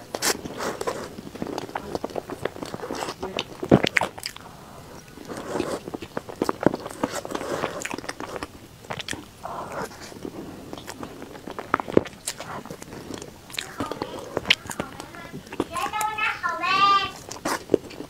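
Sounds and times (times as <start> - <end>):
chewing and mouth sounds: 0.0 - 18.0.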